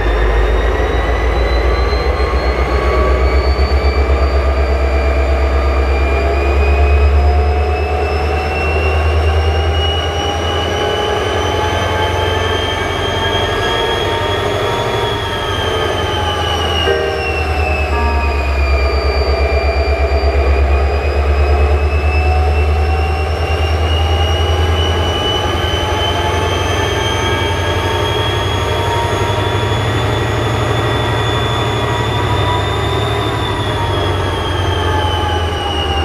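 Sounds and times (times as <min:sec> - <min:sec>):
diesel locomotive engine running: 0:00.0 - 0:36.0.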